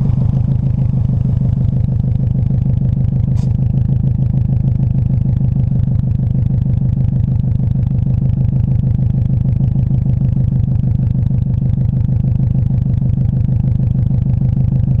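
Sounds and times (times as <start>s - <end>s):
vehicle exhaust idling: 0.0s - 15.0s.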